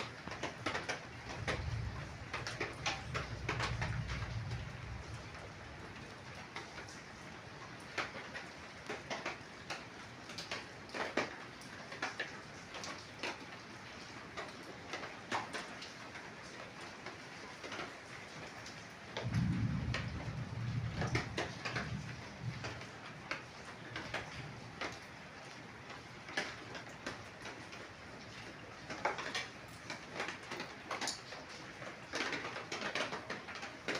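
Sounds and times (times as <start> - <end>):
rain dripping on hard surfaces: 0.0 - 33.9.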